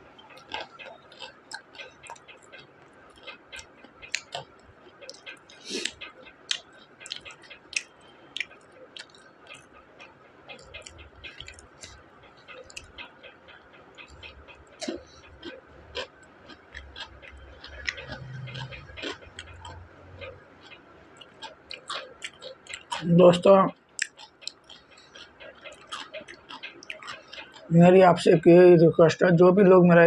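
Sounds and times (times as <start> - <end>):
crunchy chewing: 0.0 - 27.8
mouth clicks: 0.2 - 27.7.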